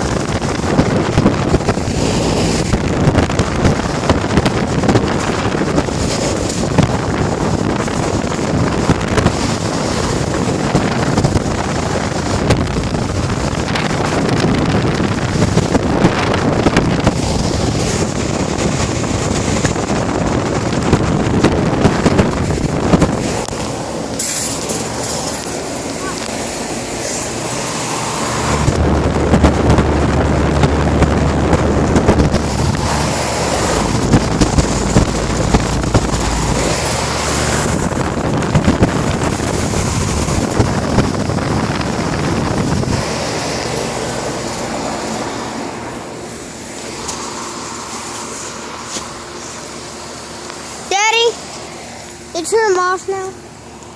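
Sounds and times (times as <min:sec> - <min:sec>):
air conditioner units running: 0:00.0 - 0:53.9
wind noise on microphone: 0:00.0 - 0:53.9.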